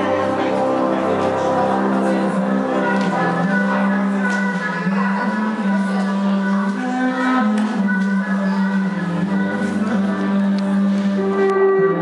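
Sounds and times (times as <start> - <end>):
slow music with held notes: 0.0 - 12.0.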